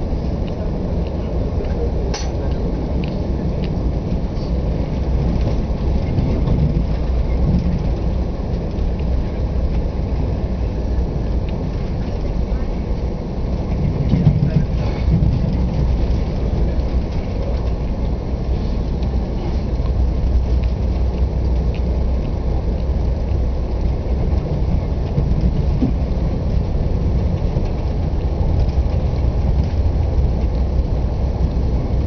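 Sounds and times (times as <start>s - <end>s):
train rumble from inside coach: 0.0s - 32.0s.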